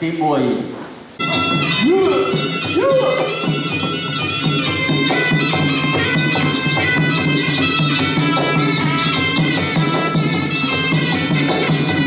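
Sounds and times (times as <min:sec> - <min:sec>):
hand drums beating: 0:01.2 - 0:12.0
shrill reed wind instrument: 0:01.2 - 0:12.0.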